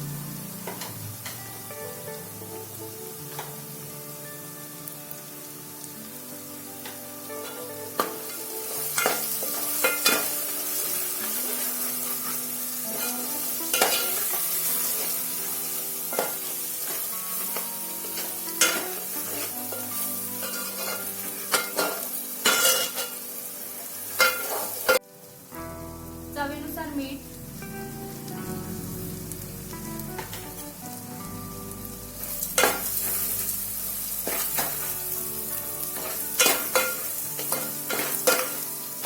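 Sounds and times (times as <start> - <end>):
food sizzling in oil: 0.0 - 39.0
soft background music: 0.0 - 39.0.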